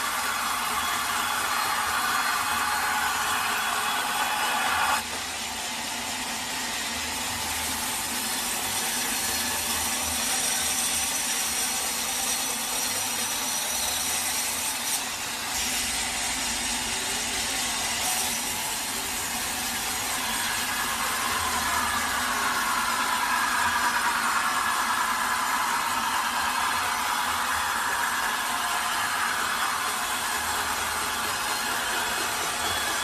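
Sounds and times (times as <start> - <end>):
saw cutting through log: 0.0 - 33.0.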